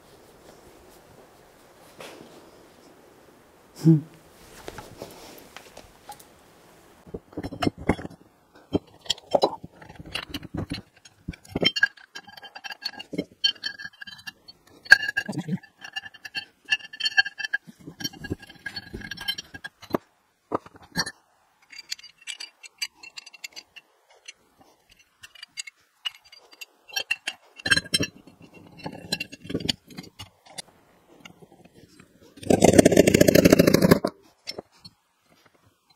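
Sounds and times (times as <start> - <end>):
metal clinks and rattles: 7.1 - 35.9.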